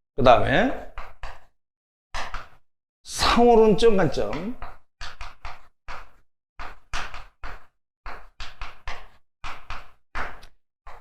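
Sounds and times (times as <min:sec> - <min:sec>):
chalk strokes and taps on board: 0:00.8 - 0:01.6, 0:02.2 - 0:02.6, 0:03.2 - 0:11.0.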